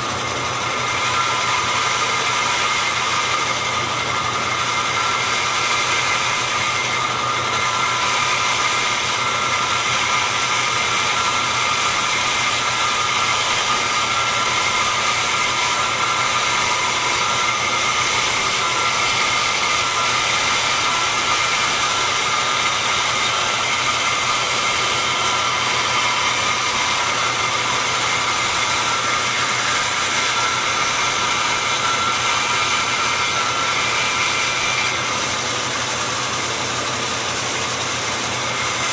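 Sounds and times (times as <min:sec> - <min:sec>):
bandsaw whining: 0:00.0 - 0:38.9.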